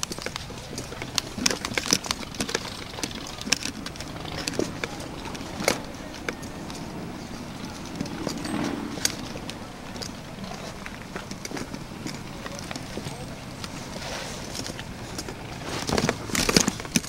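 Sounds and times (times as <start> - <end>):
footsteps on rock and grit: 0.0 - 17.0.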